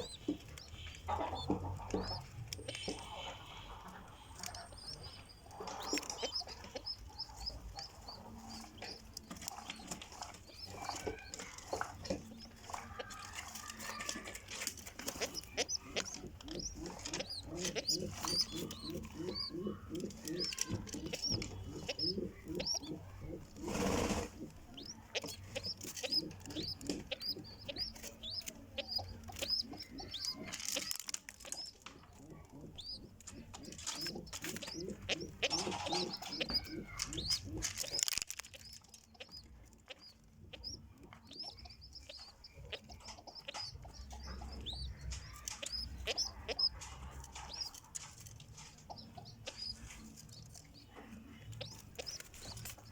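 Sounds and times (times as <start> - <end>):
high-pitched peeps: 0.0 - 52.9
pigeons calling: 0.0 - 52.9.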